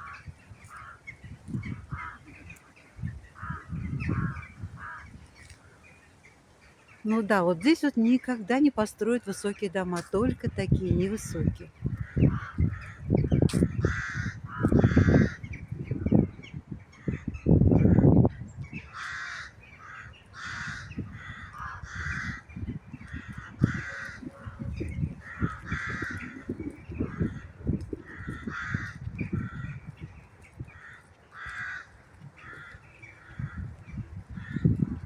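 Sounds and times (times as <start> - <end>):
birds rasping calls: 0.0 - 35.0
low rumble of wind: 0.0 - 35.0.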